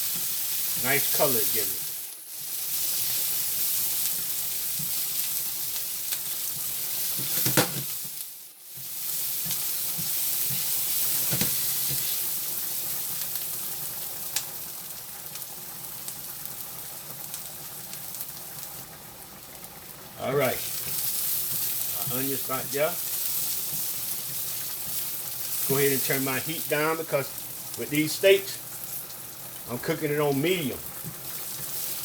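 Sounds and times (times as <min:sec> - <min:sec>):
onions sizzling in hot oil: 0:00.0 - 0:32.0.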